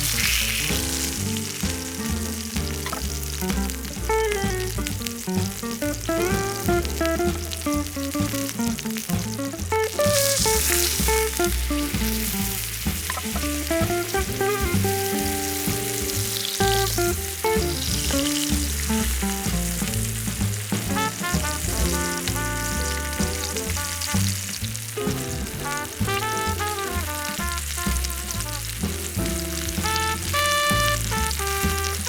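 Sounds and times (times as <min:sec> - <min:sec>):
background music with bass: 0:00.0 - 0:32.0
food sizzling in frying: 0:00.0 - 0:32.0.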